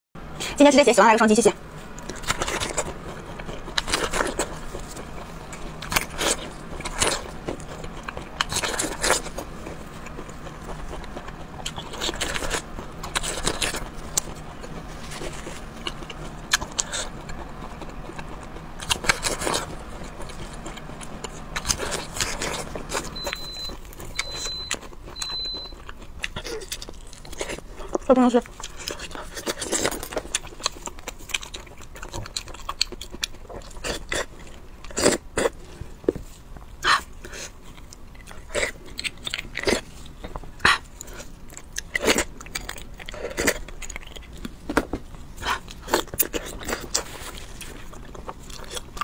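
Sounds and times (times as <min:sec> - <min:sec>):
wet chewing and slurping: 0:01.8 - 0:49.0.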